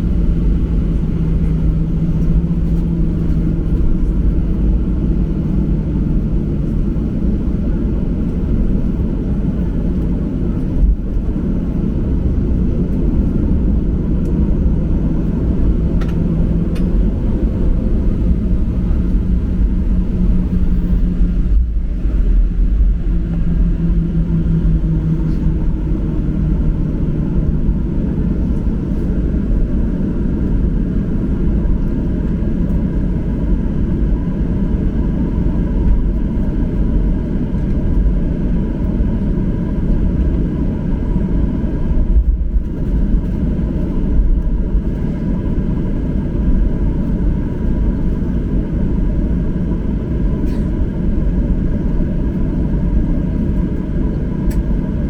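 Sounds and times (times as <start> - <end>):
low engine rumble in cabin: 0.0 - 55.0.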